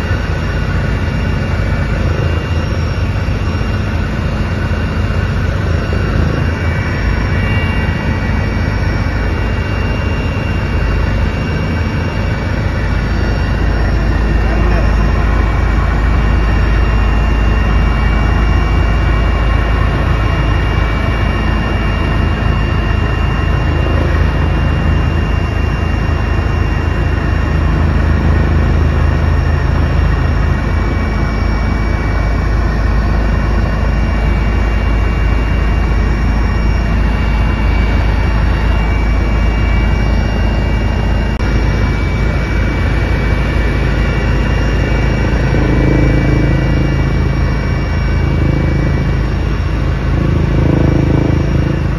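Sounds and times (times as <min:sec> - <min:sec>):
helicopter engine and rotor rumble: 0:00.0 - 0:51.9
high whines: 0:00.0 - 0:51.9.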